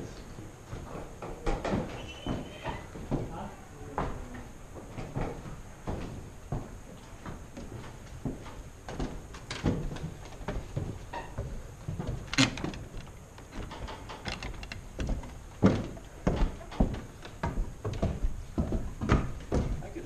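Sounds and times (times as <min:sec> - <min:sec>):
footsteps on wooden floorboards: 0:00.0 - 0:20.0.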